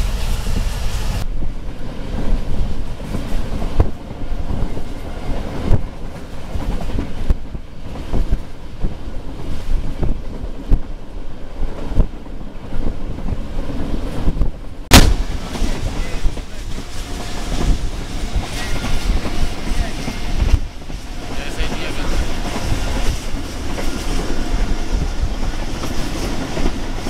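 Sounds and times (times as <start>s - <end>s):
train coach rumble: 0.0s - 27.0s
wind buffeting microphone: 0.0s - 27.0s.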